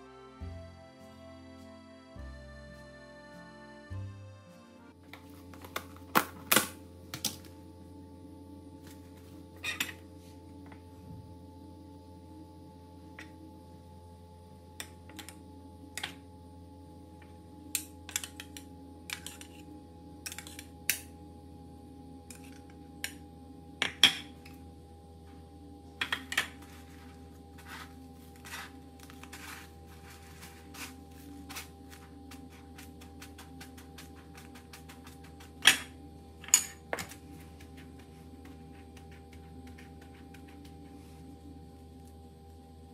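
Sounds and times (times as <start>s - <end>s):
steady background hum: 0.0s - 42.9s.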